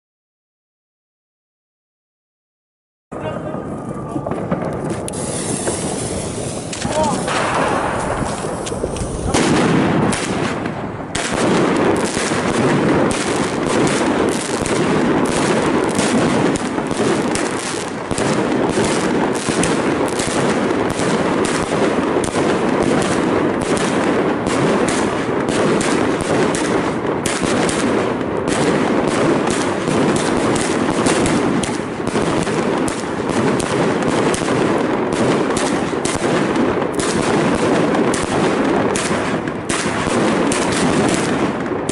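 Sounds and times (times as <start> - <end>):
fireworks launching and bursting: 3.1 - 41.9.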